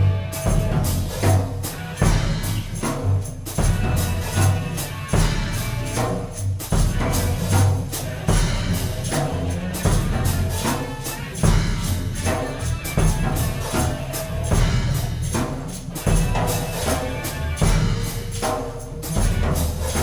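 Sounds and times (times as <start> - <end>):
constant low bass: 0.0 - 20.0
percussion strikes: 0.0 - 20.0.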